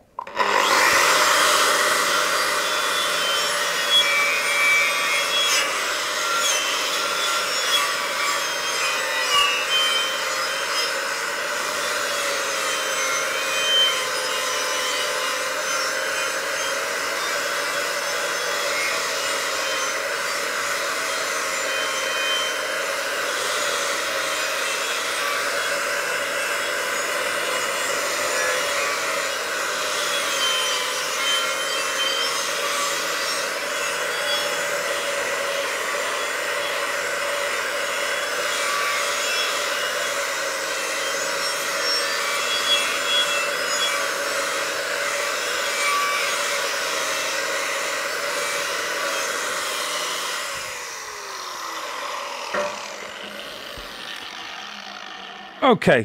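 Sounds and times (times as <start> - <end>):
angle grinder wire brush scrubbing steel: 0.2 - 55.6.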